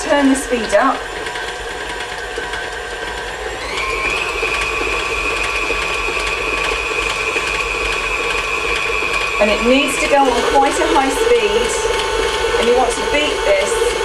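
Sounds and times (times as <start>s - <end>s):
stand mixer motor whine: 0.0s - 14.0s.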